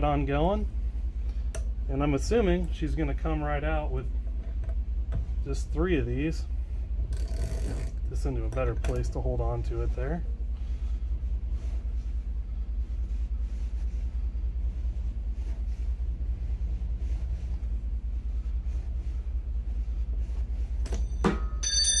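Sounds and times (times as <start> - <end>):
low rumble: 0.0 - 21.2.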